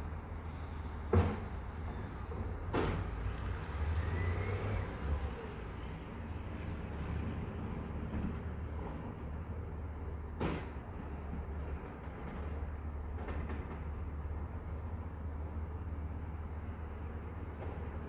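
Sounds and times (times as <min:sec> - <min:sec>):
low city rumble: 0:00.0 - 0:18.0.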